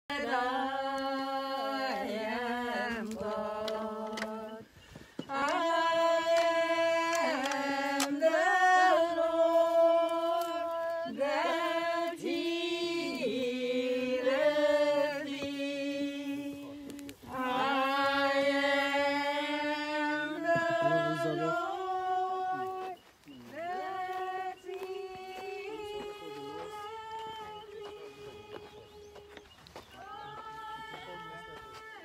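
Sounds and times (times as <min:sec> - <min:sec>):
unaccompanied voices singing: 0:00.0 - 0:32.0.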